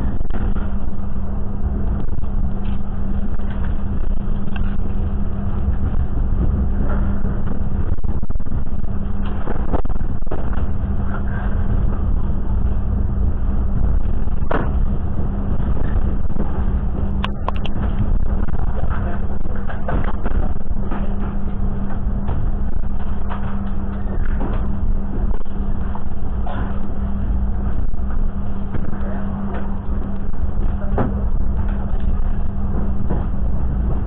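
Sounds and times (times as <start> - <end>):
train rumbling along track: 0.0 - 34.0.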